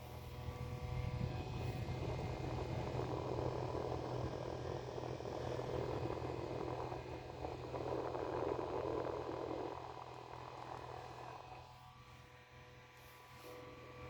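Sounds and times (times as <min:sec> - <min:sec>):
small fan whirring: 0:00.0 - 0:14.0.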